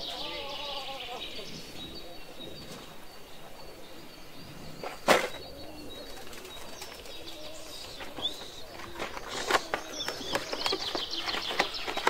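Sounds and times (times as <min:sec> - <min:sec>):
faint bird chirps: 0:00.0 - 0:12.0
pigeons cooing: 0:00.0 - 0:12.0.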